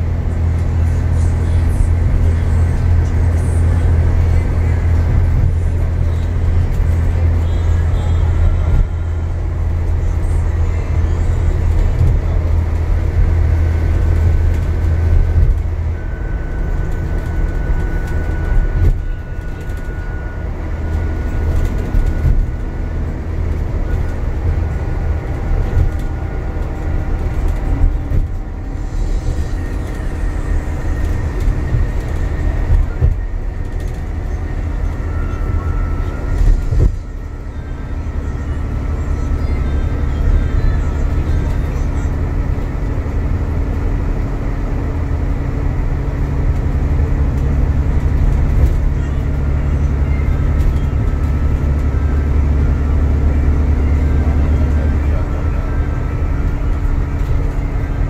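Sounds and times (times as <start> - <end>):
bus engine and road drone: 0.0 - 58.0.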